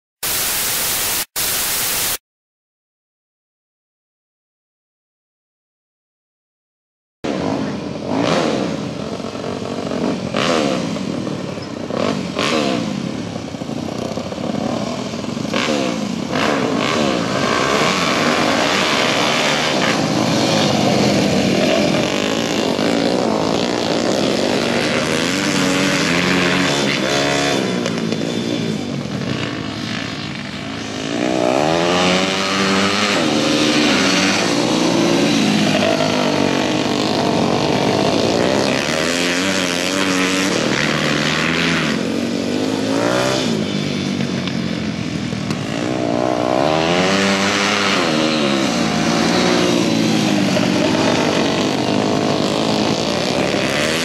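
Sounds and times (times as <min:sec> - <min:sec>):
dirt bike engines revving: 0:07.3 - 0:54.0.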